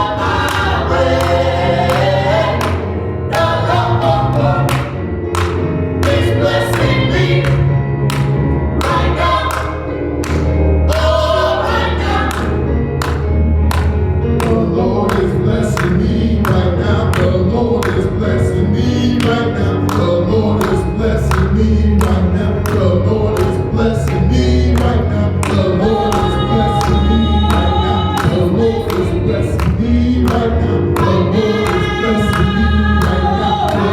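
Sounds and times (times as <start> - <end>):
gospel choir singing with band: 0.0 - 13.3, 14.2 - 33.9
held bass notes: 0.0 - 33.9.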